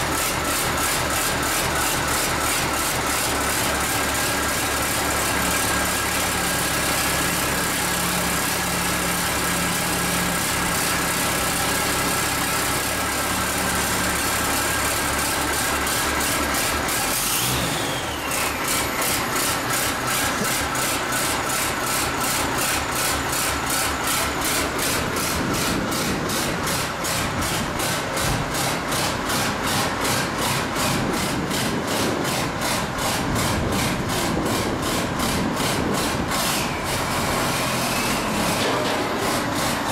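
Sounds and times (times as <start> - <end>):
diesel engine rasping: 0.0 - 39.9.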